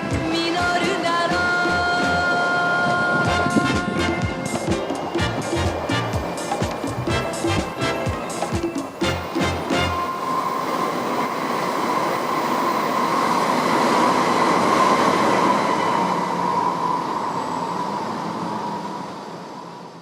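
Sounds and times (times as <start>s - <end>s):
train passing with whine: 0.0s - 20.0s.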